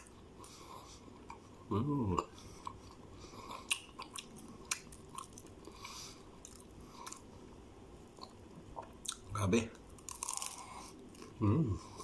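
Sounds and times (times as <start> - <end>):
person chewing pizza: 0.0 - 12.0.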